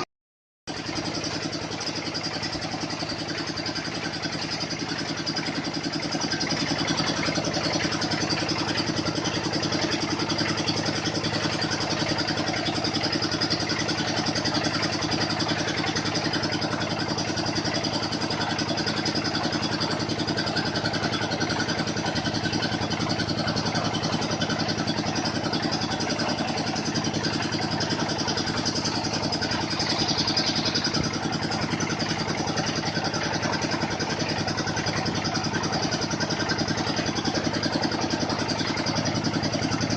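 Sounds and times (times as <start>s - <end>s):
small engine running steadily: 0.7s - 39.9s.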